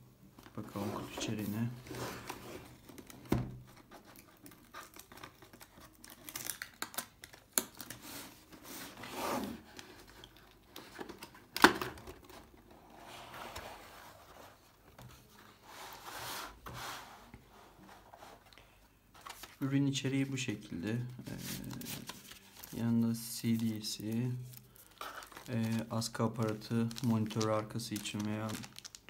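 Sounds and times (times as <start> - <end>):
cardboard rustling and crinkling: 0.4 - 18.4, 19.1 - 19.9, 21.0 - 29.0.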